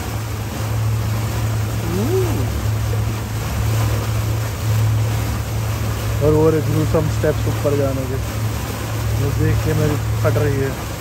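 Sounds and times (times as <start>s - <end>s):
motorboat engine droning: 0.0s - 11.0s
water and wind noise: 0.0s - 11.0s.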